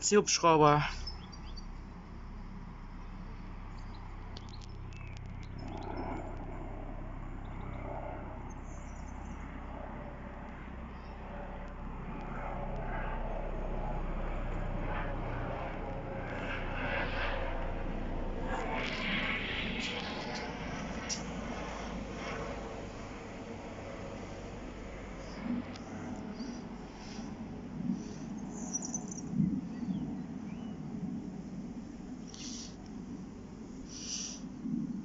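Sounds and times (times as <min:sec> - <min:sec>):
helicopter rotor drone: 0:00.0 - 0:35.0.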